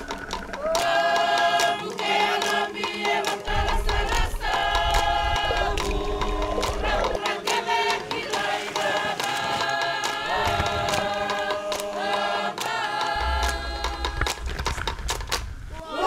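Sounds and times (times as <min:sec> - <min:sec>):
choir singing held notes: 0:00.0 - 0:14.5, 0:15.7 - 0:16.0.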